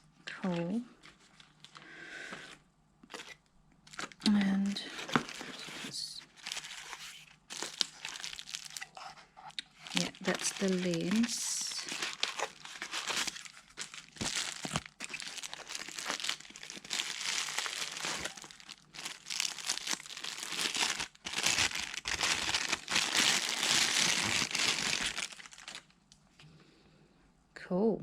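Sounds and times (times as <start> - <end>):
packaging crinkling and rustling: 0.4 - 26.0.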